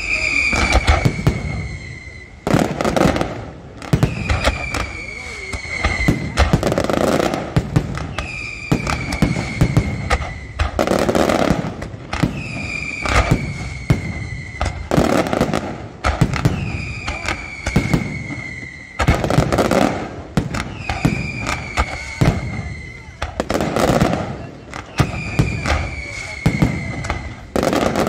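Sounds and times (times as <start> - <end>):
fireworks bangs and crackling: 0.0 - 28.0
fireworks whistles: 0.0 - 28.0.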